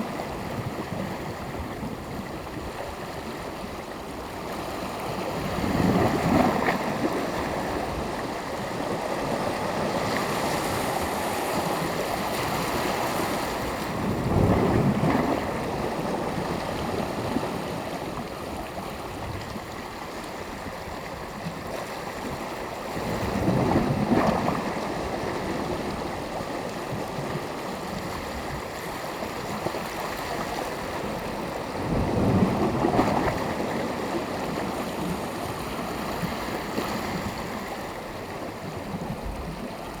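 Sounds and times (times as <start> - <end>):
sea waves breaking on shore: 0.0 - 40.0.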